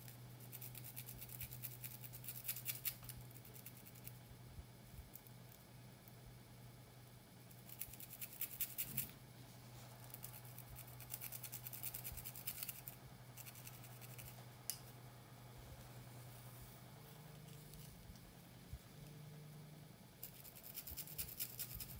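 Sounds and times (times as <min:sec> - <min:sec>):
faint low hum: 0:00.0 - 0:21.9.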